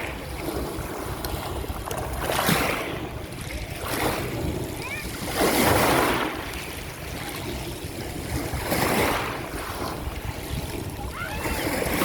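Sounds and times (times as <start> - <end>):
waves breaking on shore: 0.0 - 12.0
wind on microphone: 0.0 - 12.0.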